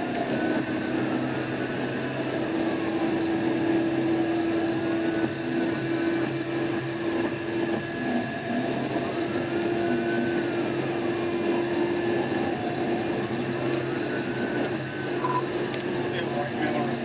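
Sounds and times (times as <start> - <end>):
police siren wailing: 0.0 - 17.0
road and engine noise: 0.0 - 17.0.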